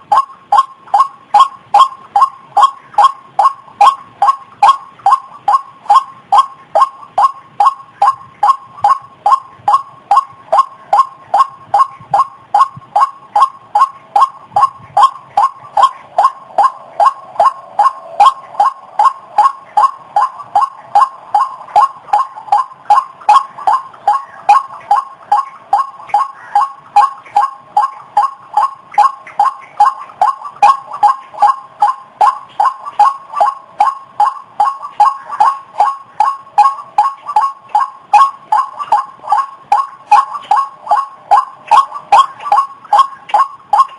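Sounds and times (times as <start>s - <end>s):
waterhen calling: 0.0s - 43.9s.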